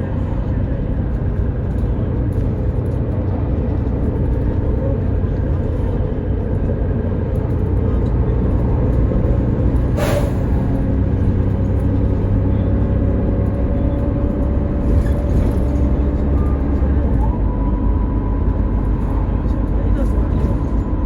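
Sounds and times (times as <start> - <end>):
bus engine rumble: 0.0 - 21.0.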